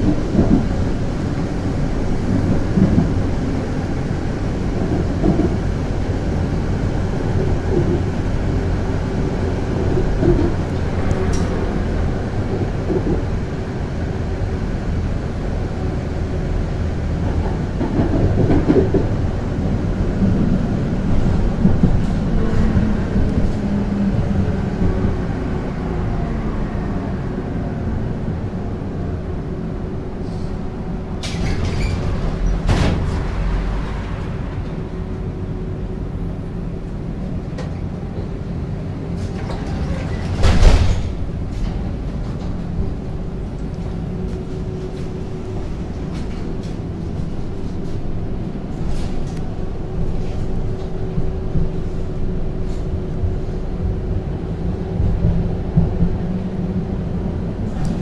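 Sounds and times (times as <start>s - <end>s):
tram wheels rumbling on rail: 0.0s - 58.0s.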